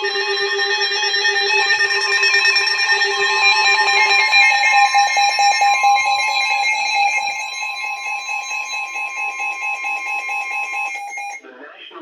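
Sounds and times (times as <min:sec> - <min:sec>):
rapidly pulsing alarm beep: 0:00.0 - 0:11.4
steady long alarm tone: 0:00.0 - 0:11.4.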